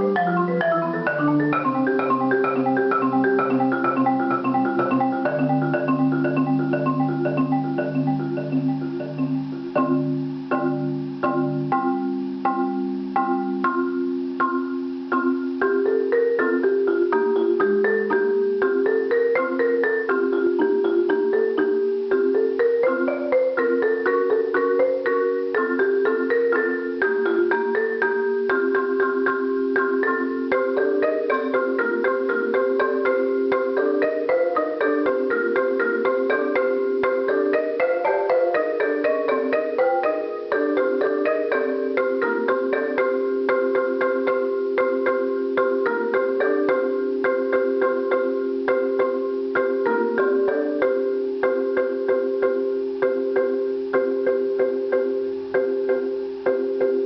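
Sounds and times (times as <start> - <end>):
marimba played with mallets: 0.0 - 57.0.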